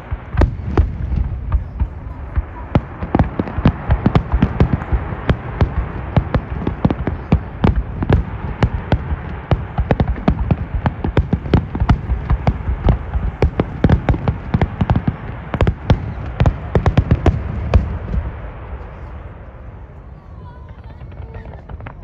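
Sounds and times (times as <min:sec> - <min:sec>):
fireworks cracking and popping: 0:00.0 - 0:19.0, 0:20.4 - 0:22.0.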